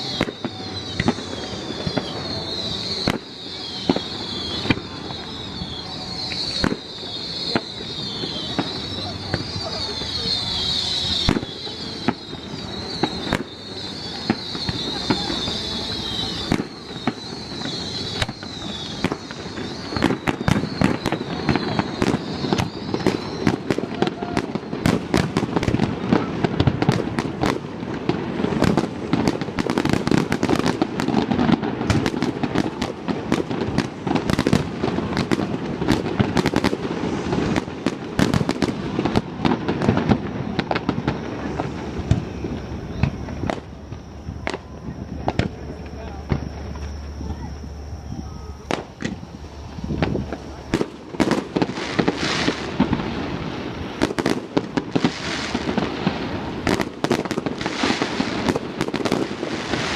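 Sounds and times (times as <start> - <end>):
fireworks bangs and crackles: 0.0 - 59.9
high firework whistle: 0.0 - 59.9.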